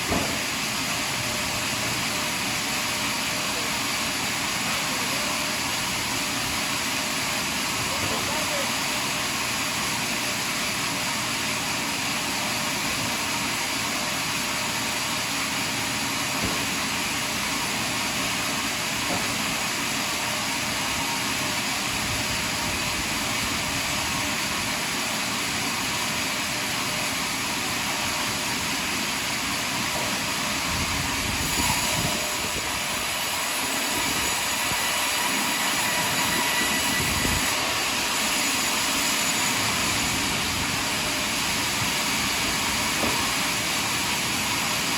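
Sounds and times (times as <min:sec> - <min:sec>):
sawmill sawing a log: 0:00.0 - 0:44.9.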